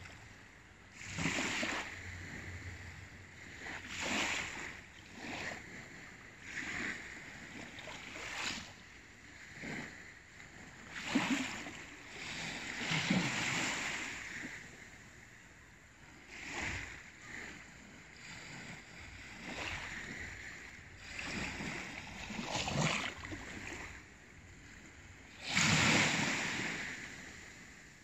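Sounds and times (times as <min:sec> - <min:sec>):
small waves washing ashore: 0:00.0 - 0:28.0.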